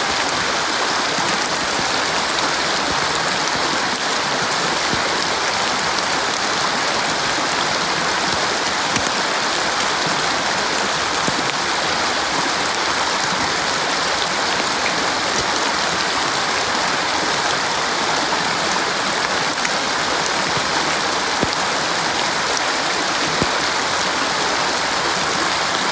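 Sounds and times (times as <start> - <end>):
stream running over stones: 0.0 - 25.9.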